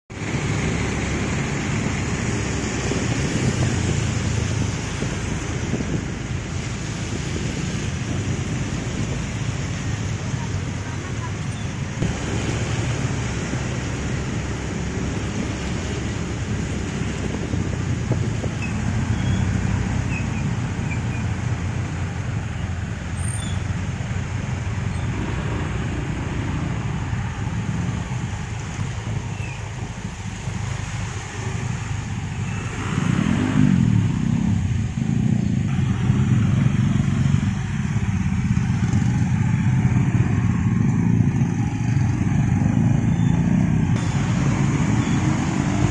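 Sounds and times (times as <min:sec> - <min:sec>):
tyres on wet road: 0:00.0 - 0:45.9
vehicle engines rumbling: 0:00.0 - 0:45.9
wind on microphone: 0:00.1 - 0:45.9.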